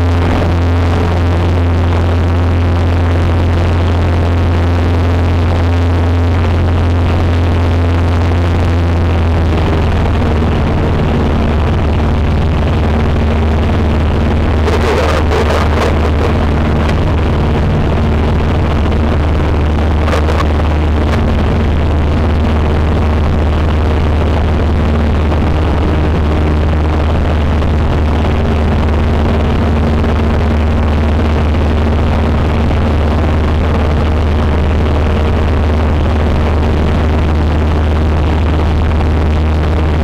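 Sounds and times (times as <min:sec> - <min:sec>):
airplane engine and propeller drone: 0:00.0 - 0:40.0.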